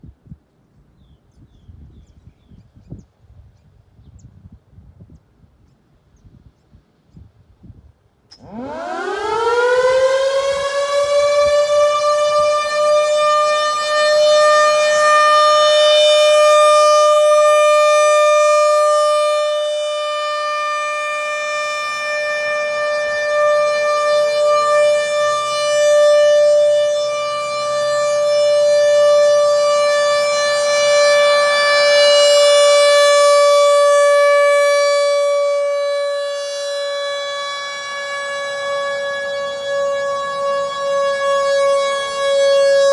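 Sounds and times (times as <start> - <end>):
warning siren steady tone: 8.3 - 42.9.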